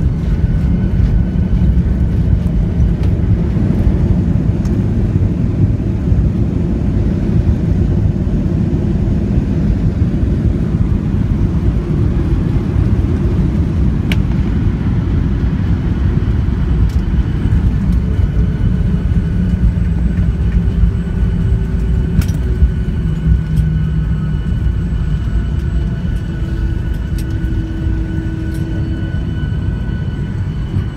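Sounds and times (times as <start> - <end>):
airliner cabin engine rumble: 0.0 - 30.9
faint whining tones: 0.0 - 30.9.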